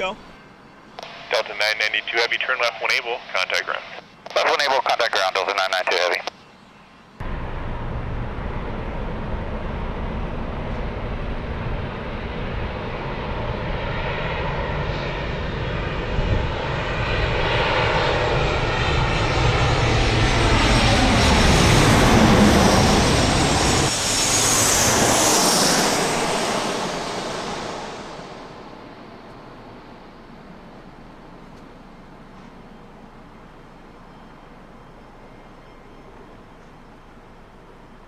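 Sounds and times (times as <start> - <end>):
jet airliner passing: 0.0 - 6.3, 7.2 - 38.0.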